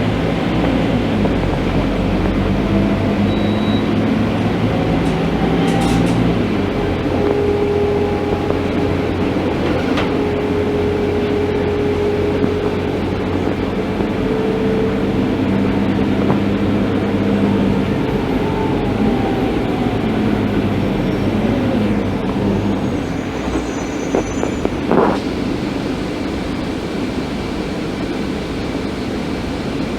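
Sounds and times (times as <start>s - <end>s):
bus diesel engine drone: 0.0s - 29.9s.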